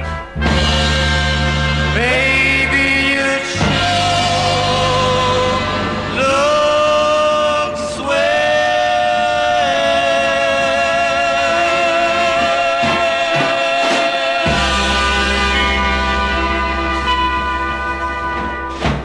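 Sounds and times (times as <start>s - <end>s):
soul music: 0.0s - 19.0s
vocal group harmonizing: 1.5s - 17.8s.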